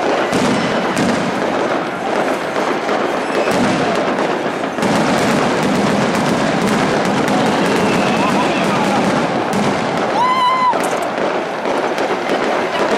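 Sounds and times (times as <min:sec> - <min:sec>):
fireworks crackling bangs: 0:00.0 - 0:12.9.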